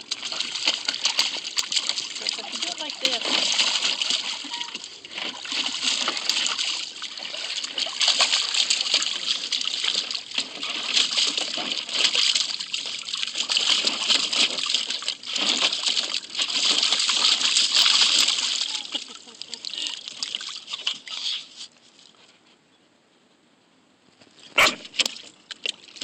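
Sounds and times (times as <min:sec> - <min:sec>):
water splashing in a plastic pool: 0:00.0 - 0:22.2, 0:24.4 - 0:26.0.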